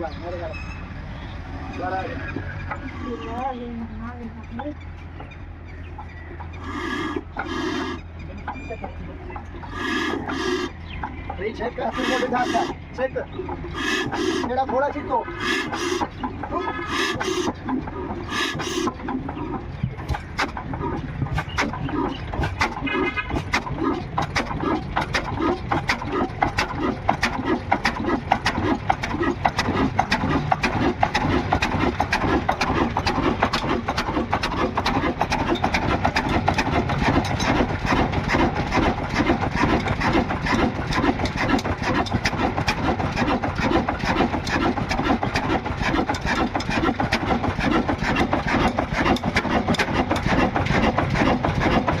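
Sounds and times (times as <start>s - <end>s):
diesel engine knocking: 1.8s - 52.0s.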